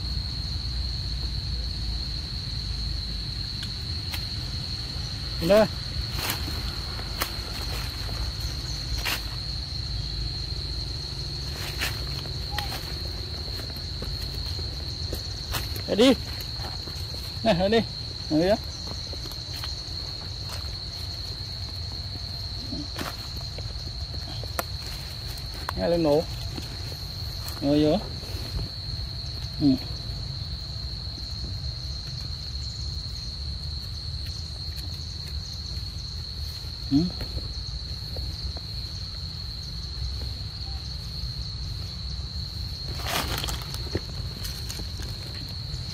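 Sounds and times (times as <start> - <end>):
insects buzzing: 0.0 - 45.9.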